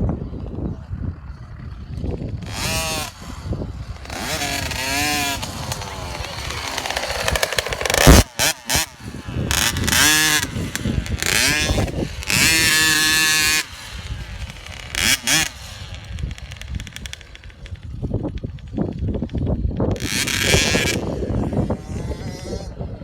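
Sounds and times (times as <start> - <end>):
dirt bike engine revving: 0.9 - 23.0.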